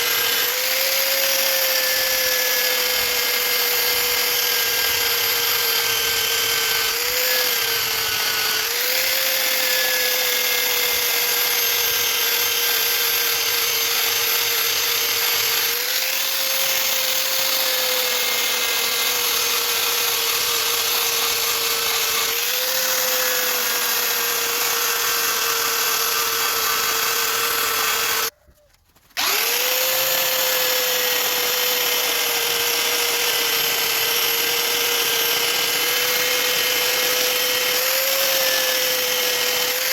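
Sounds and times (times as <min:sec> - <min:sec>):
belt sander motor running: 0:00.0 - 0:28.3, 0:29.2 - 0:39.9.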